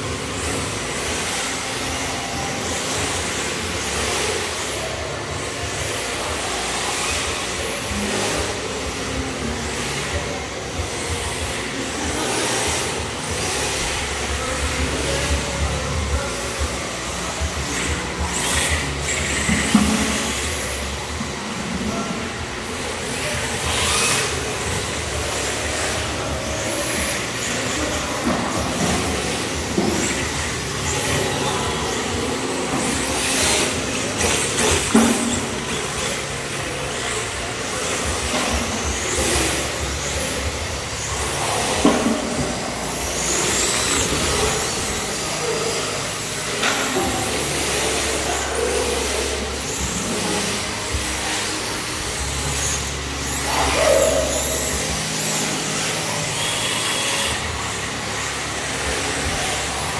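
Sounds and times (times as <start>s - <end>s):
electric motors whining: 0.0s - 59.9s.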